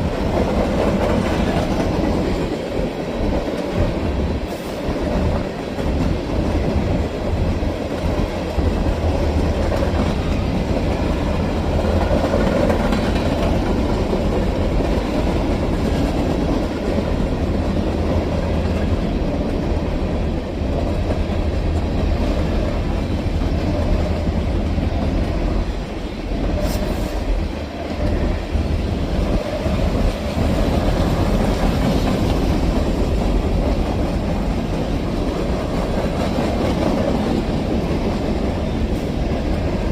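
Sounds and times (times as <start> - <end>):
freight train rolling on rails: 0.0 - 39.9.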